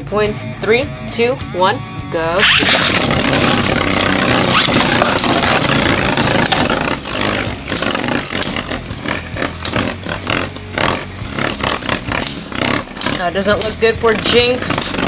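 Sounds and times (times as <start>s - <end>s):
spinning tops whirring and grinding: 2.4s - 15.0s.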